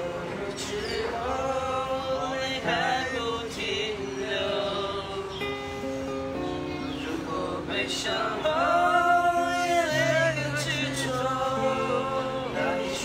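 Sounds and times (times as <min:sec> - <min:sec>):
acoustic guitar: 0:00.0 - 0:13.0
voices singing slow song: 0:00.0 - 0:13.0.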